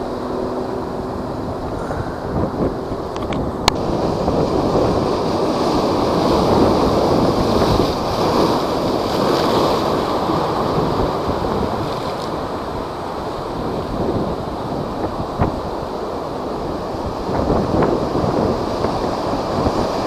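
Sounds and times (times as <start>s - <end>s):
high waves surging and breaking: 0.0s - 20.0s
wind buffeting microphone: 0.0s - 20.0s.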